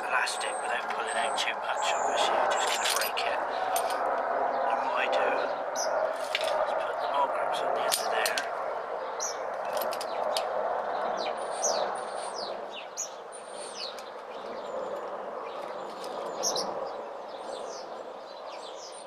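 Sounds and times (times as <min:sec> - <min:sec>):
steady rushing background noise: 0:00.0 - 0:18.9
small birds chirping: 0:00.0 - 0:19.0.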